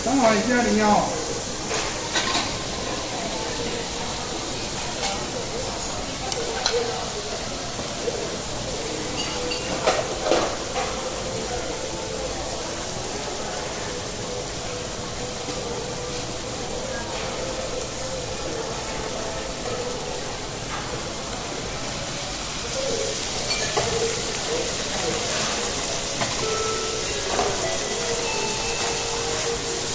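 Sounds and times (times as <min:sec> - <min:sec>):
food sizzling on griddle: 0:00.0 - 0:29.9.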